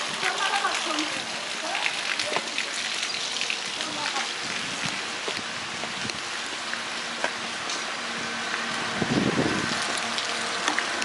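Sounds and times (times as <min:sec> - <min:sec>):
drops splashing: 0:00.0 - 0:11.0
heavy rain on paving: 0:00.0 - 0:11.0.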